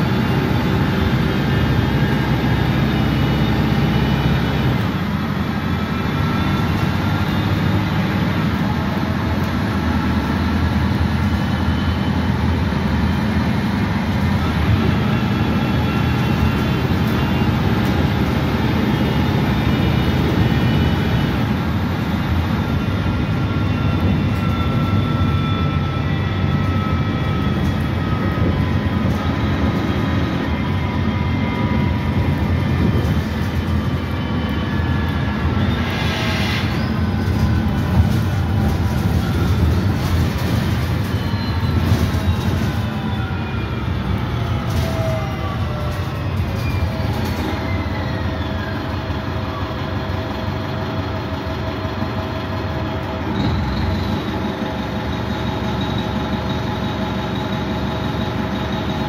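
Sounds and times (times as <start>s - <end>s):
bus diesel engine droning: 0.0s - 59.0s
faint transmission whine: 0.0s - 59.0s.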